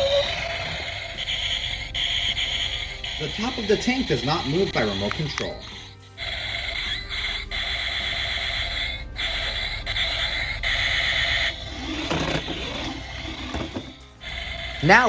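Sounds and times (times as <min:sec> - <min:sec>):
buzzy synthetic toy tank sound: 0:00.0 - 0:15.0.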